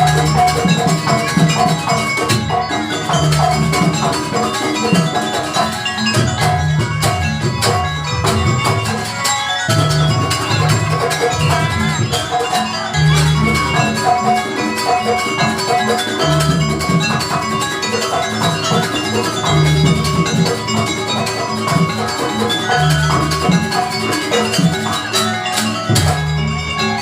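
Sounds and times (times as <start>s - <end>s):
drums: 0.0s - 27.0s
metallic pitched percussion: 0.0s - 27.0s.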